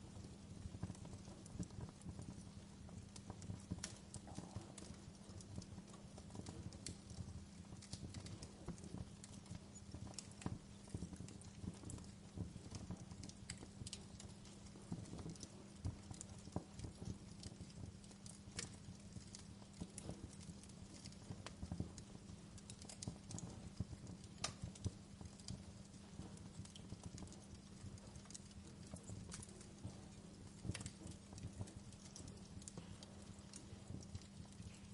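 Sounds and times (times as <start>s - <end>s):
fireplace crackling: 0.0s - 34.9s
steady low hum: 0.0s - 34.9s.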